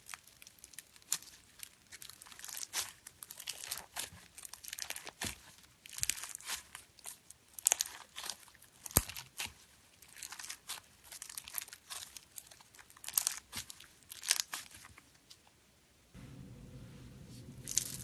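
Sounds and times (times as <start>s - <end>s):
slime crackling and popping: 0.0s - 15.0s, 17.6s - 18.0s.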